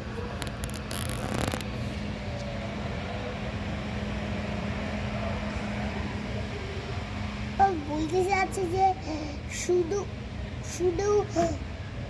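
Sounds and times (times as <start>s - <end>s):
low mechanical droning hum: 0.0s - 12.0s.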